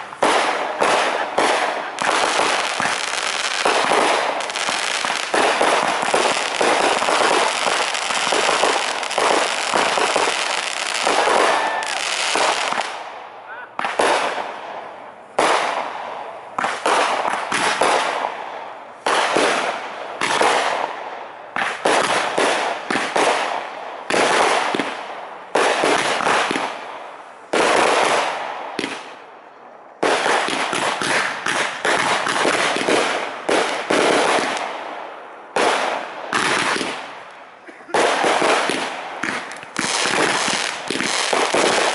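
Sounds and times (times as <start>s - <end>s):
fireworks bursting: 0.0s - 29.3s, 29.9s - 41.9s.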